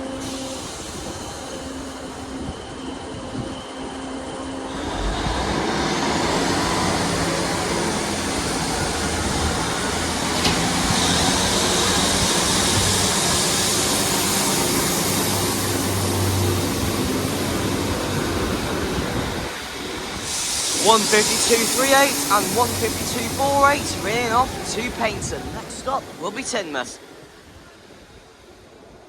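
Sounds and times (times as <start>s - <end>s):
diesel train engines droning: 0.0s - 29.0s
wheel and rail noise: 0.0s - 29.0s.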